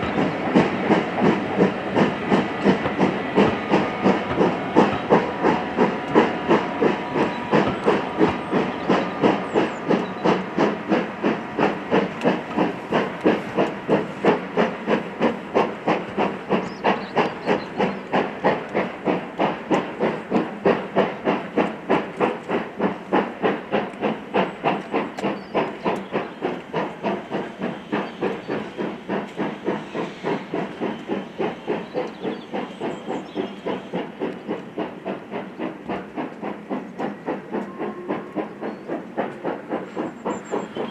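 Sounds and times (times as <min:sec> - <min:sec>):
steam locomotive chuffing: 0:00.0 - 0:40.9.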